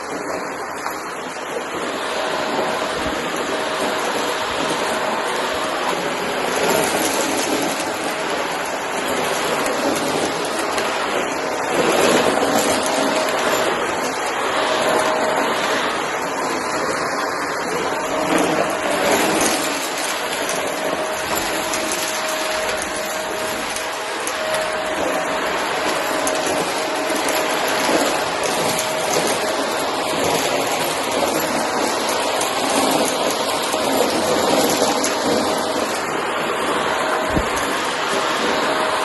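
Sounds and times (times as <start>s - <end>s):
debris clicking in vacuum: 0.0s - 39.0s
vacuum cleaner running: 0.0s - 39.0s.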